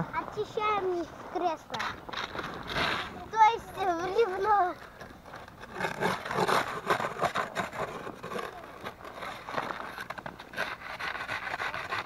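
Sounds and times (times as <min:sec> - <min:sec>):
scraping and brushing strokes: 0:00.3 - 0:12.0.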